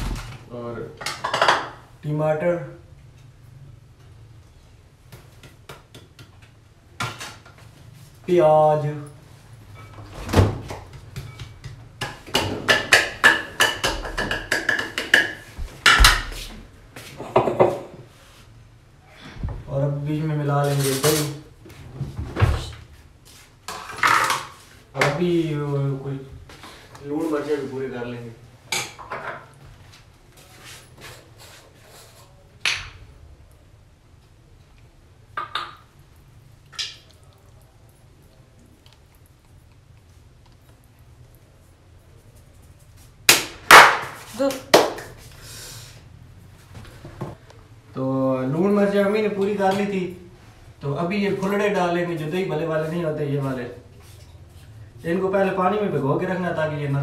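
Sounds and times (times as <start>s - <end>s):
low room hum: 0.0s - 57.0s.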